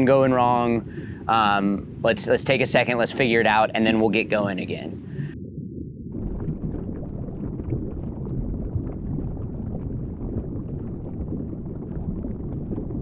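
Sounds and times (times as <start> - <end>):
faint underwater crackling: 0.0 - 13.0
underwater rumble: 0.0 - 13.0.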